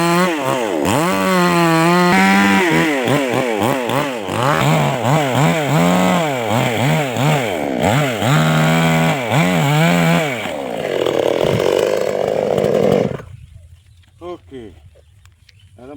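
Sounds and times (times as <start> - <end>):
chainsaw engine revving: 0.0 - 13.3.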